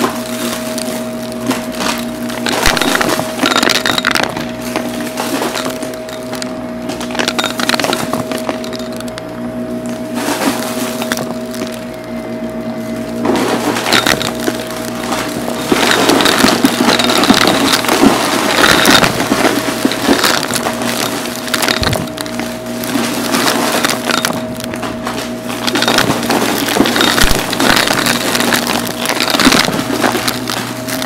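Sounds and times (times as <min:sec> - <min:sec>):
debris crackling through vacuum: 0:00.0 - 0:31.0
vacuum cleaner motor hum: 0:00.0 - 0:31.0.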